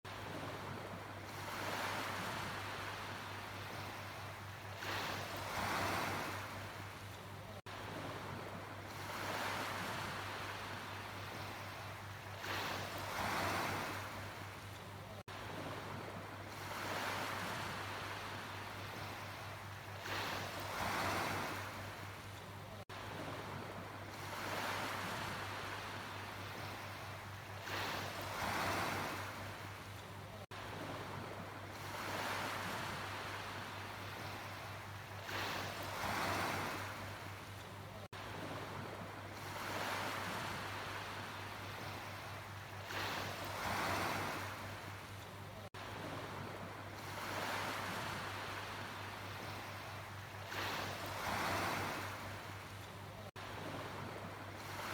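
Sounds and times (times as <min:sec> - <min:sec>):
sea waves breaking: 0:00.1 - 0:54.9.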